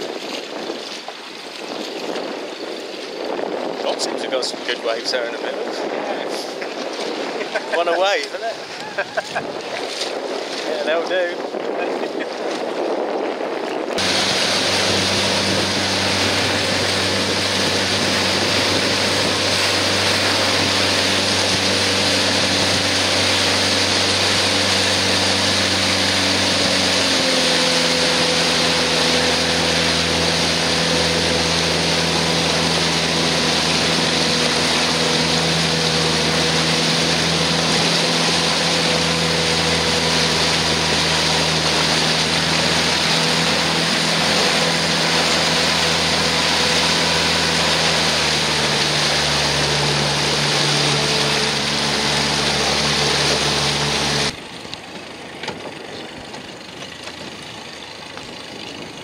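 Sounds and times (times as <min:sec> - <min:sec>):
motorboat engine running: 0:00.0 - 0:59.0
water rushing: 0:00.0 - 0:59.0
wind noise: 0:00.0 - 0:59.0.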